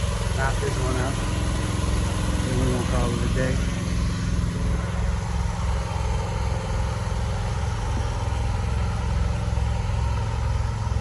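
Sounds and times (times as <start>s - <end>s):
pressure washer engine running: 0.0s - 11.0s.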